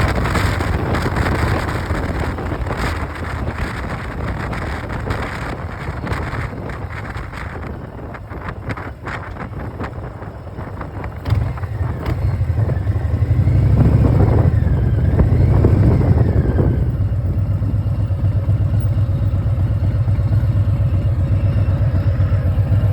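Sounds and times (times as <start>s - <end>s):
wind noise: 0.0s - 18.4s
motorcycle engine exhaust: 0.0s - 22.9s.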